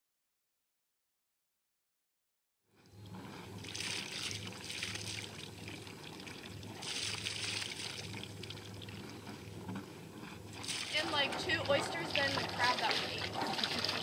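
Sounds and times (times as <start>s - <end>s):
steady low hum: 2.7s - 14.0s
water lapping against hull: 2.7s - 14.0s.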